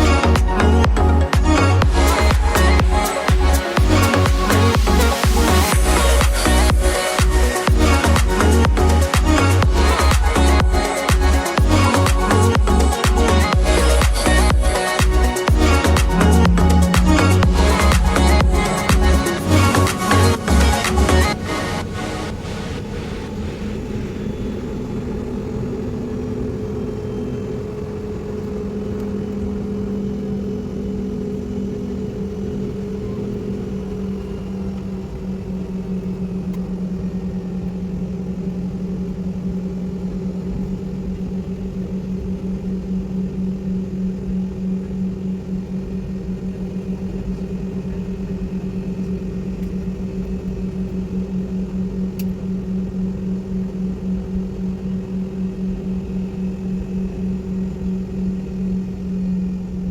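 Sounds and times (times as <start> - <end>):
airliner engines droning: 0.0 - 59.9.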